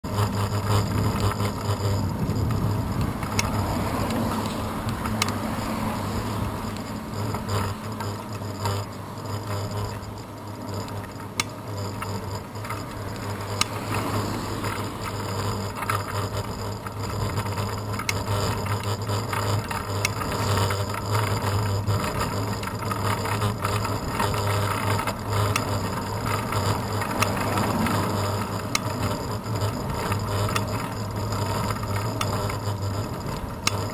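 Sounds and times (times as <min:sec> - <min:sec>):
constant low hum: 0:00.0 - 0:33.9
rattling clicks over bumps: 0:00.0 - 0:33.9
bicycle tyre rumble on asphalt: 0:00.1 - 0:33.9.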